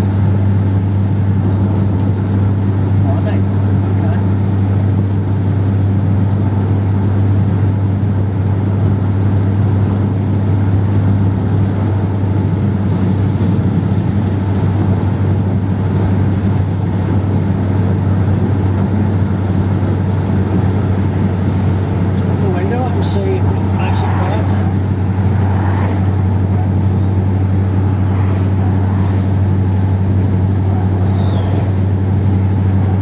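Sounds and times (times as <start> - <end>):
car engine drone: 0.0 - 33.0
road noise: 0.0 - 33.0.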